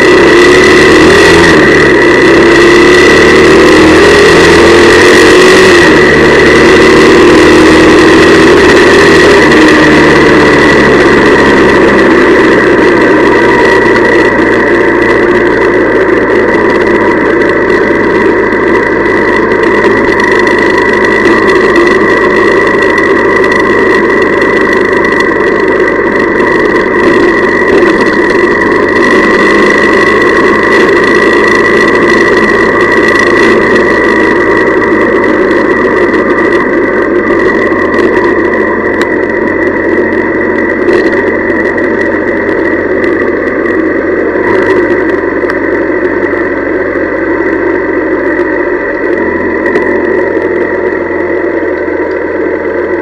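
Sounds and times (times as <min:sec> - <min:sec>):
motorcycle engine running: 0:00.0 - 0:53.0
steady high whine: 0:00.0 - 0:53.0.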